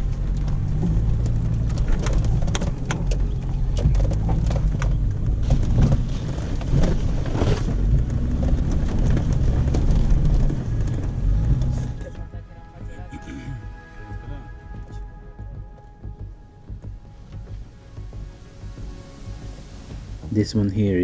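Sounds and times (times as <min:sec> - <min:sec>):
engine running steadily: 0:00.0 - 0:20.3.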